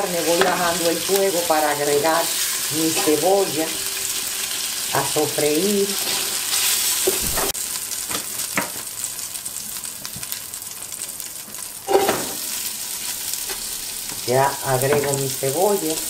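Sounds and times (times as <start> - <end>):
oil sizzling in a pot: 0.0 - 16.0.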